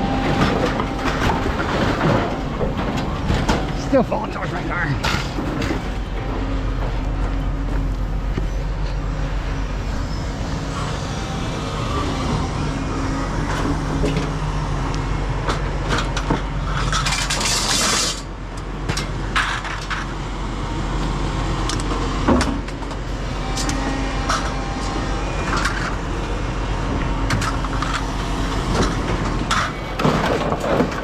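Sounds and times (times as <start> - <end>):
vehicle engine running: 0.0 - 17.6, 18.3 - 31.0.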